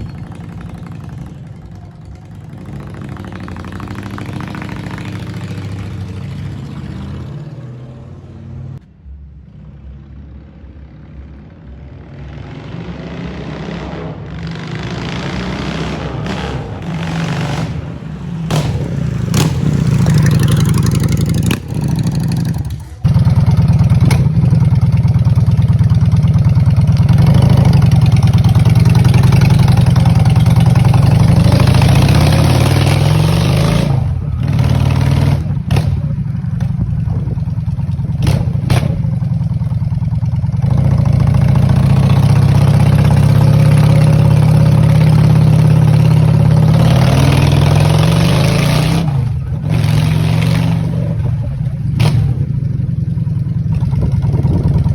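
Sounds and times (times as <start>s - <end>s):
motorcycle engine running: 0.0s - 8.0s, 14.3s - 54.9s.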